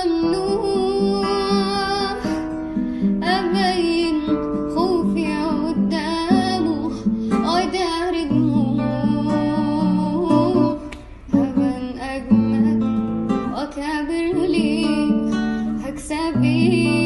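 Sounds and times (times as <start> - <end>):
plucked acoustic guitar: 0.0 - 17.0
woman singing with vibrato: 0.0 - 17.0.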